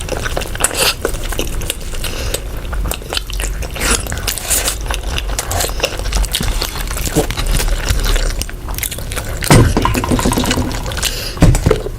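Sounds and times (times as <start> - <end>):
person chewing with wet mouth smacks: 0.0 - 11.9.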